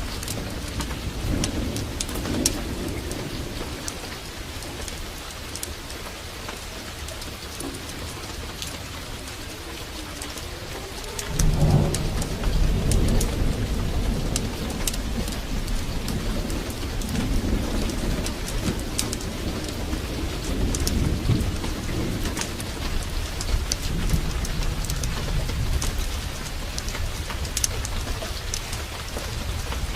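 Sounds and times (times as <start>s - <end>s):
heavy rain falling: 0.0s - 29.9s
sharp crackles: 0.0s - 29.9s
thunder rumbling: 0.0s - 29.9s.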